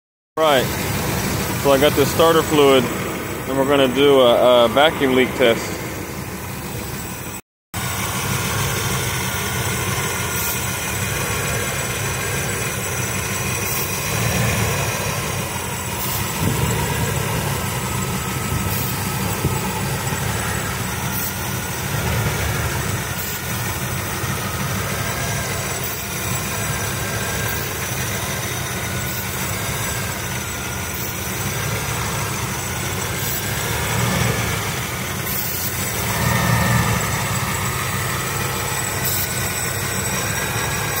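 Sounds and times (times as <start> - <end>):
engine idling: 0.4 - 41.0.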